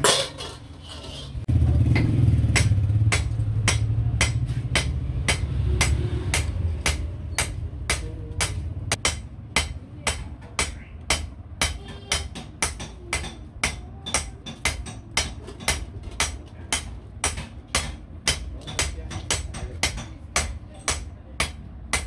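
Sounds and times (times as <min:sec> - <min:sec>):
hammer striking sheet iron: 0:01.9 - 0:22.0.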